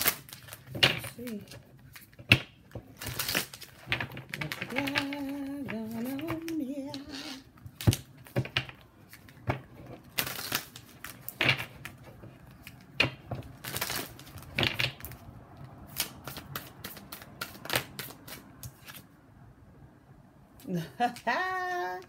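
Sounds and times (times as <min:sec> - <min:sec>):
cards being shuffled: 0:00.0 - 0:19.1.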